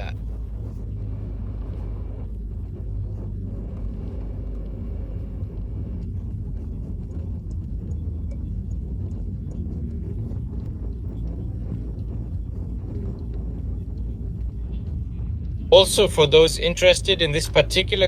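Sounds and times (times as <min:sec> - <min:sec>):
diesel engine rumble in car cabin: 0:00.0 - 0:18.0.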